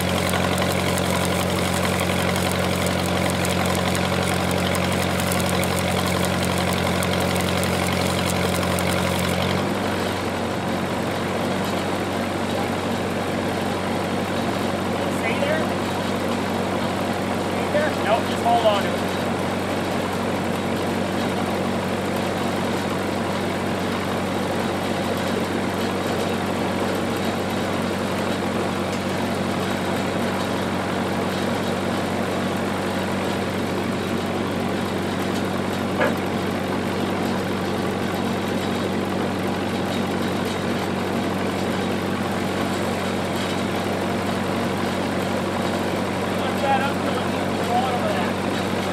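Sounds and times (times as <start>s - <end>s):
generator humming: 0.0s - 48.9s.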